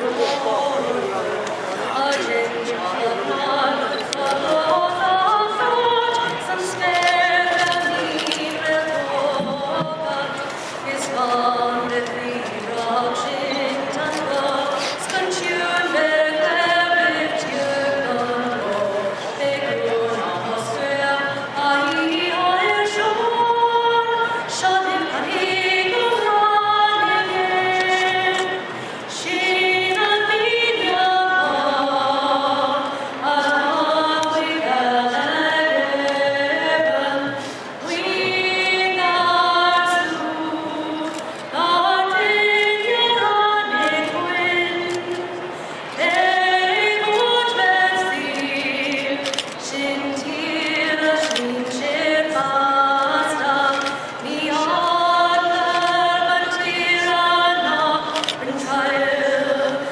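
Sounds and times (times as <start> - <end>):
woman singing an anthem unaccompanied: 1.8 - 59.9.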